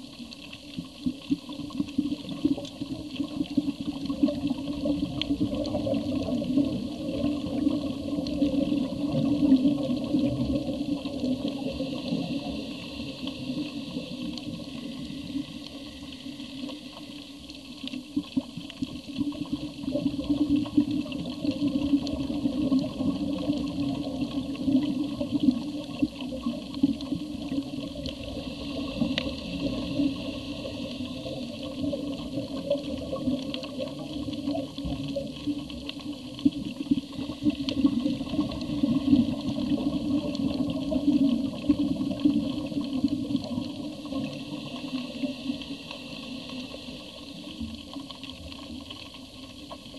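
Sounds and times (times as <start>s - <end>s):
muffled underwater rush of water: 0.0s - 49.9s.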